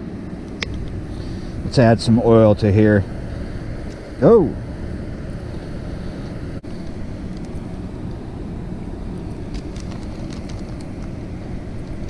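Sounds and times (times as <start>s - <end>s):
wind buffeting microphone: 0.2s - 12.0s.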